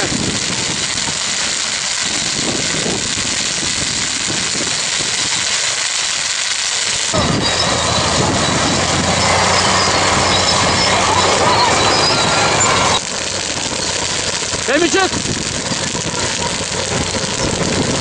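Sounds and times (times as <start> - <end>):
bulldozer diesel engine: 0.0 - 18.0
stubble burning crackling: 0.0 - 18.0.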